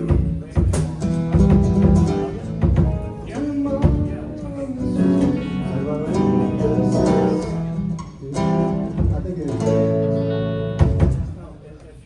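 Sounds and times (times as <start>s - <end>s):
faint voice singing: 0.0s - 9.8s
acoustic guitar strumming: 0.0s - 11.5s.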